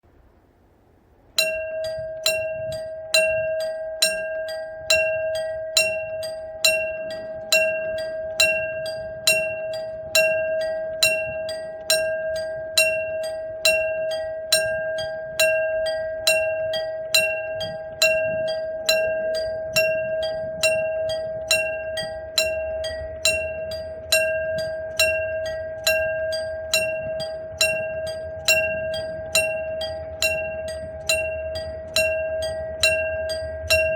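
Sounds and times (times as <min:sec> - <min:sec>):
railroad crossing bell ringing: 0:01.4 - 0:33.9.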